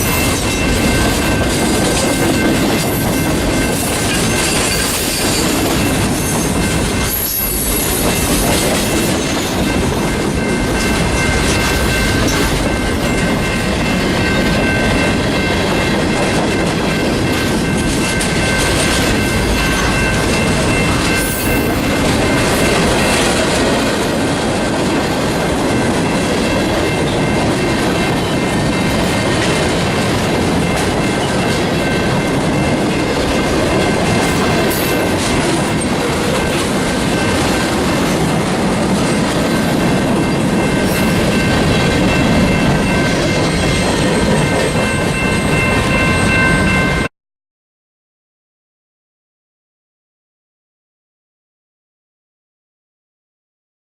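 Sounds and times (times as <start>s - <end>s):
train wheels rumbling on rails: 0.0s - 47.1s.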